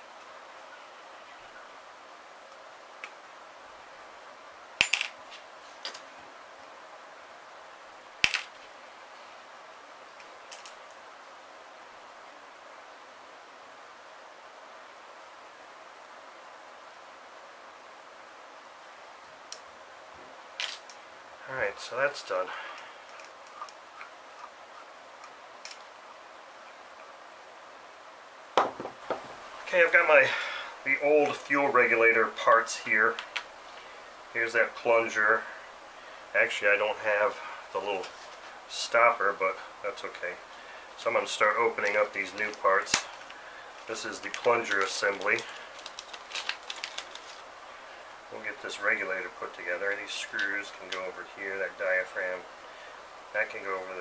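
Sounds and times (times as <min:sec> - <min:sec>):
low hiss: 0:00.0 - 0:54.0.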